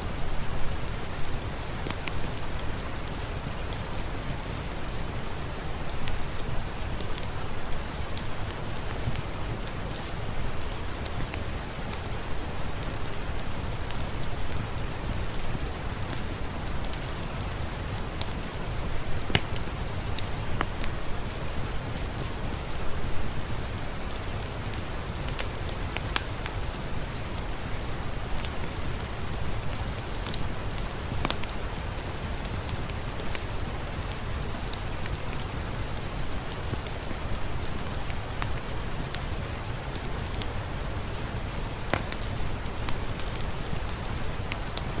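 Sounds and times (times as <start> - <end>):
steady rain: 0.0 - 45.0
wood fire crackling: 0.0 - 45.0.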